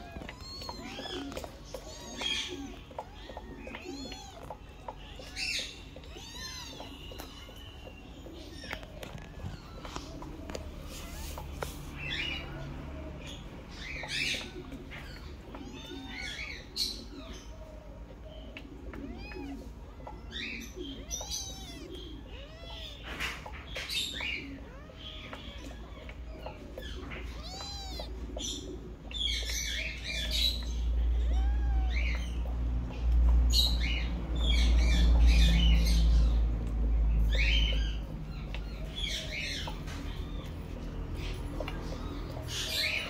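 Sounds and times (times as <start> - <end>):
kittens mewing: 0.0 - 43.0.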